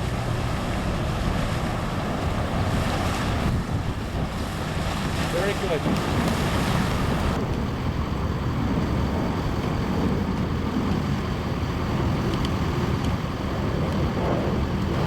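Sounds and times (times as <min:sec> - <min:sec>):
motorboat engine rumbling: 0:00.0 - 0:15.0
water noise: 0:00.0 - 0:15.0.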